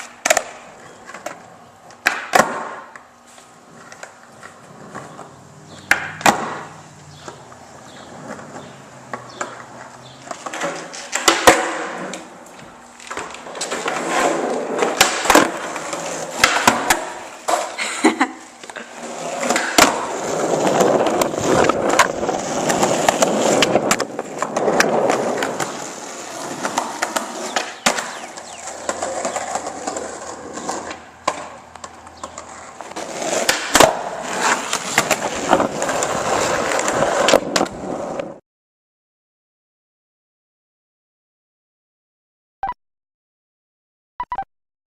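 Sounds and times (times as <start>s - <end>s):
skateboard clacks: 0.0s - 3.1s, 3.8s - 12.3s, 13.0s - 17.8s, 18.6s - 38.4s
skateboard wheels rolling on pavement: 0.0s - 38.4s.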